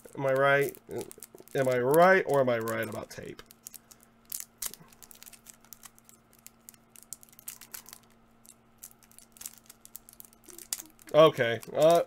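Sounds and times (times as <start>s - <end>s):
fingers peeling tape: 0.0s - 12.0s.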